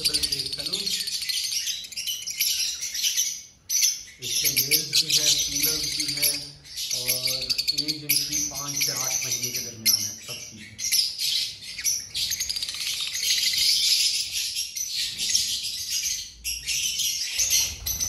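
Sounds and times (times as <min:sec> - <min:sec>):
lovebirds chirping: 0:00.0 - 0:18.0.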